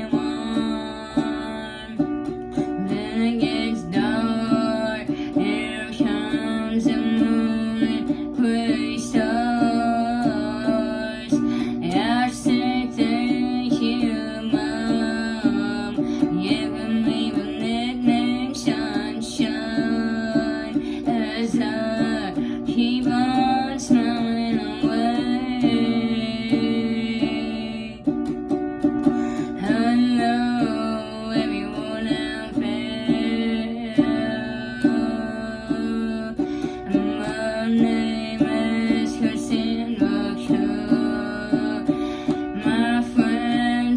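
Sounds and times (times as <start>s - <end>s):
guitar playing: 0.0s - 43.9s
person singing: 0.0s - 43.9s.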